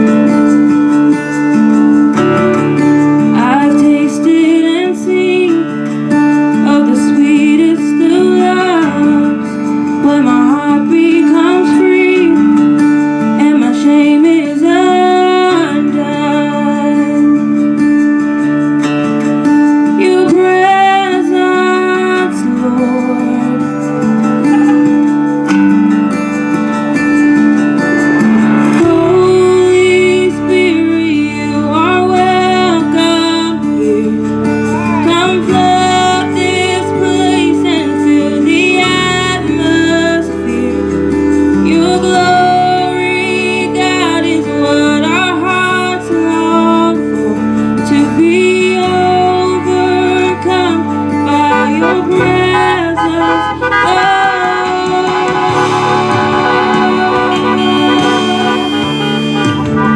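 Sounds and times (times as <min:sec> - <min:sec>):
electric keyboard chords: 0:00.0 - 0:59.9
woman singing gospel: 0:03.3 - 0:05.8, 0:06.6 - 0:17.4, 0:20.0 - 0:24.9, 0:28.8 - 0:59.0.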